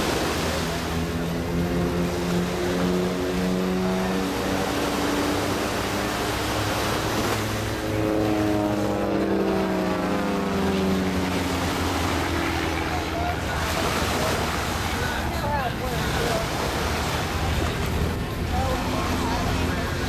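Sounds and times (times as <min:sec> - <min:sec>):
propeller aircraft passing: 0:00.0 - 0:20.0
surf washing on beach: 0:00.0 - 0:20.0.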